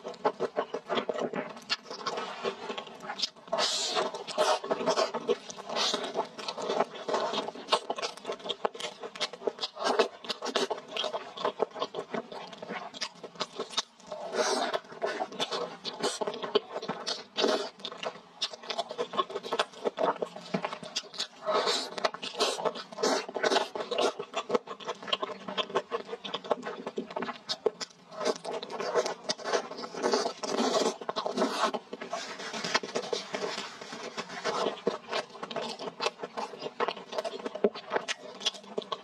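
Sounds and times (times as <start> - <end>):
chewing and crunching: 0.0 - 39.0.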